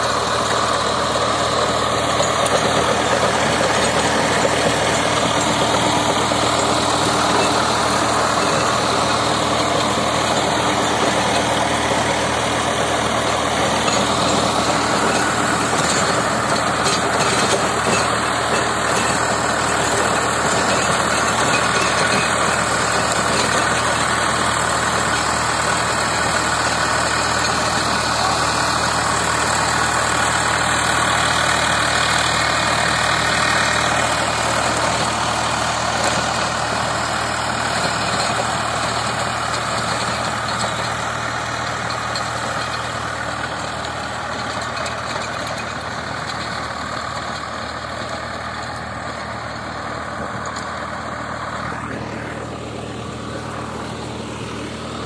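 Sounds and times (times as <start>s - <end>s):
rotavator blades churning soil: 0.0s - 55.0s
tractor diesel engine under load: 0.0s - 55.0s.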